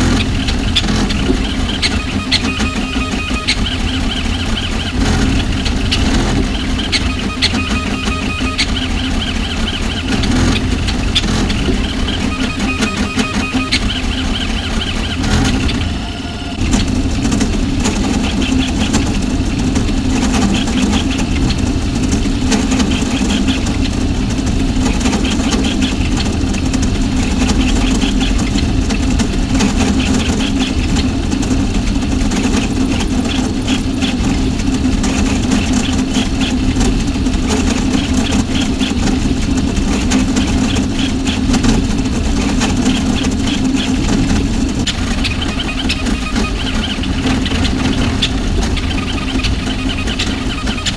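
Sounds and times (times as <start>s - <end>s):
fans humming: 0.0s - 50.9s
stepper motors chirping and whining: 0.0s - 50.9s.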